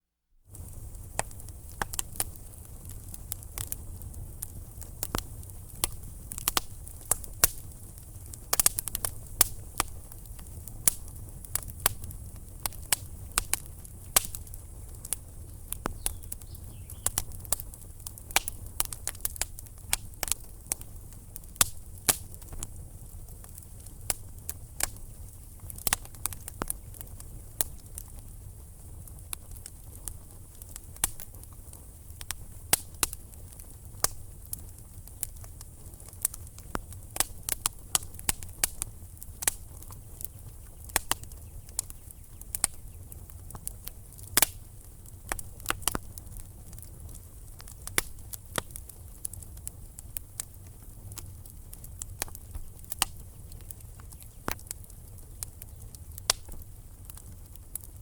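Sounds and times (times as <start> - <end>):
low rumble of flames: 0.4 - 58.0
firewood crackling and popping: 0.5 - 58.0.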